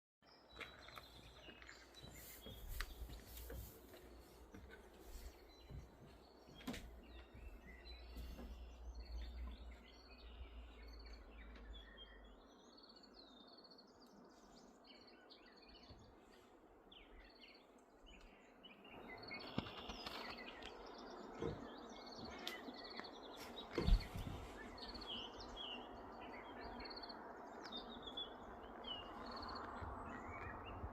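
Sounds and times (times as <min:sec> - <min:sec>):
small birds chirping: 0:00.2 - 0:30.9.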